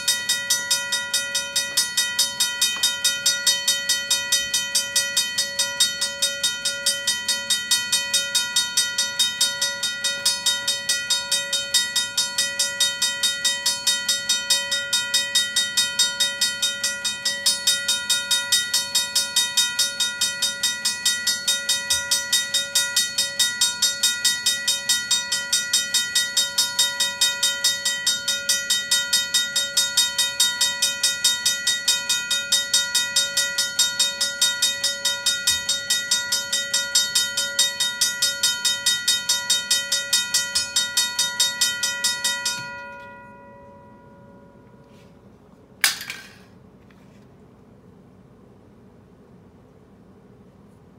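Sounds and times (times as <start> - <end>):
railroad crossing bell ringing: 0.0 - 46.4.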